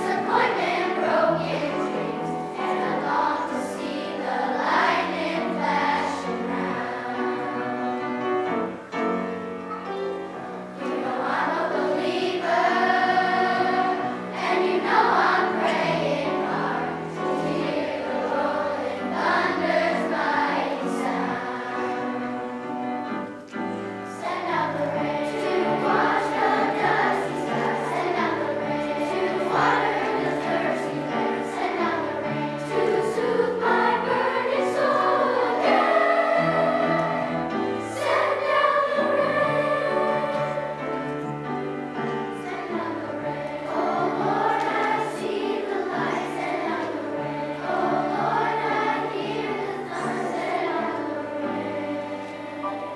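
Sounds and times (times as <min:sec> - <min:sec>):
children's choir singing: 0:00.0 - 0:52.9
instrumental accompaniment: 0:00.0 - 0:52.9.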